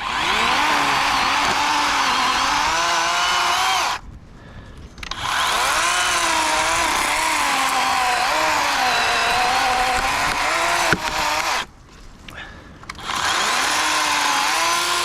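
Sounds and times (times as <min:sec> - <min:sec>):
electric chainsaw cutting wood: 0:00.0 - 0:04.0, 0:05.0 - 0:11.7, 0:12.9 - 0:15.0.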